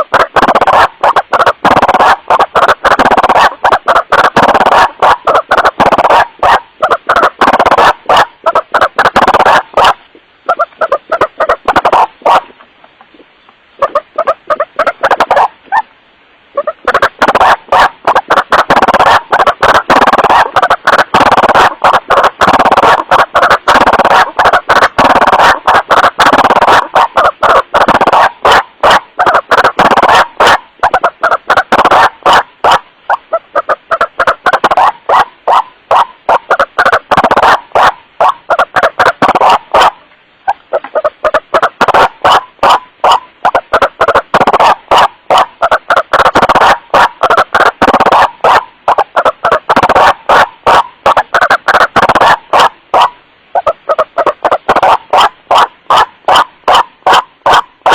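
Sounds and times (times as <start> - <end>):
waterhen calls played loud: 0.0 - 57.9.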